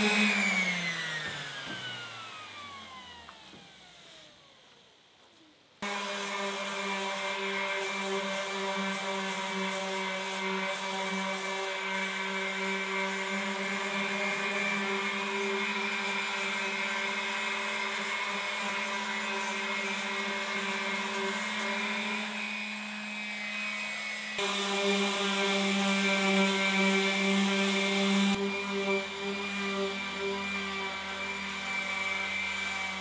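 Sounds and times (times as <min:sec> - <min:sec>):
power sander running: 0:00.0 - 0:33.0.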